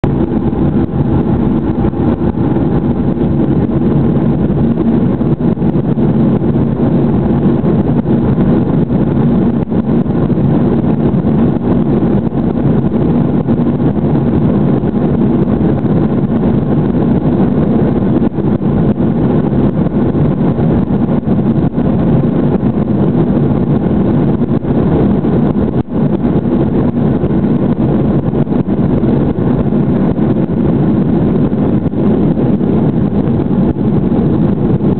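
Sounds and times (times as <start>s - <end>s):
jet engine rumble: 0.0s - 34.9s.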